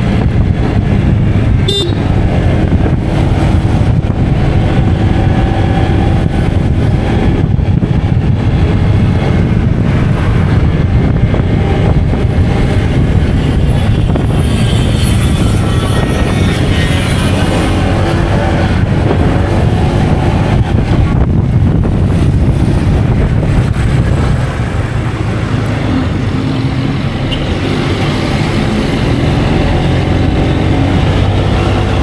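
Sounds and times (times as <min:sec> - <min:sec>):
vehicle rumble: 0:00.0 - 0:32.0
wind rushing over microphone: 0:00.0 - 0:32.0.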